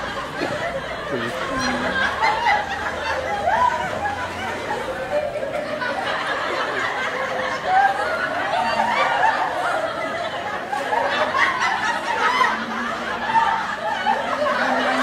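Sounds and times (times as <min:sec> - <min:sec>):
people laughing: 0:00.0 - 0:15.0.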